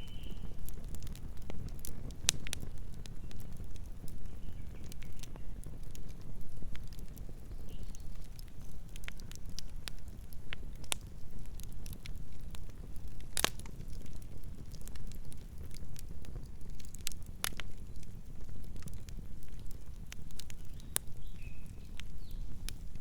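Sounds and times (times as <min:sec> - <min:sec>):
burning wood crackling and popping: 0:00.0 - 0:23.0
low rumble of flames: 0:00.0 - 0:23.0.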